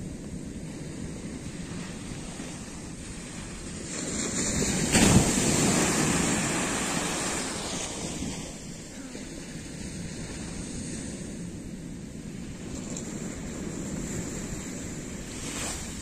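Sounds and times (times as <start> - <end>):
wave breaking on sandy shore: 0.0 - 16.0
wind rumble on microphone: 0.0 - 16.0.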